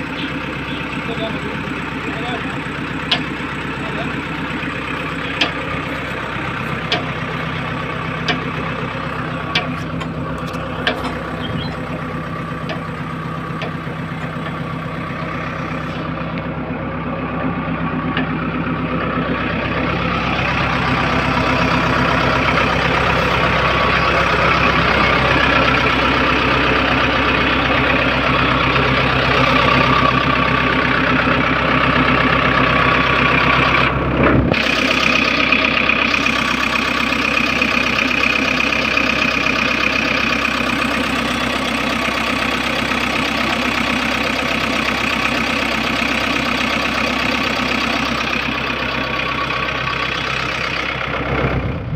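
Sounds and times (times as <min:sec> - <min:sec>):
diesel engine rumble: 0:00.0 - 0:51.9.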